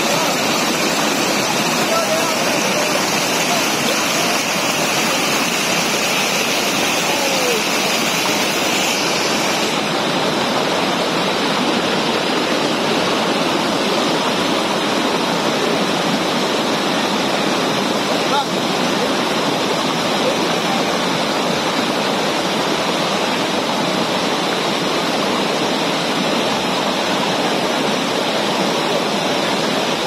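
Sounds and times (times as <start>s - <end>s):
water rushing over rocks: 0.0s - 30.0s.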